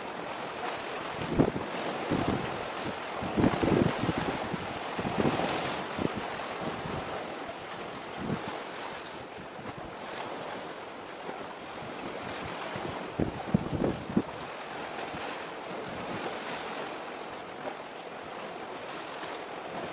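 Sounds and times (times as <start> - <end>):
waves: 0.0 - 19.9
wind buffeting microphone: 0.3 - 16.9.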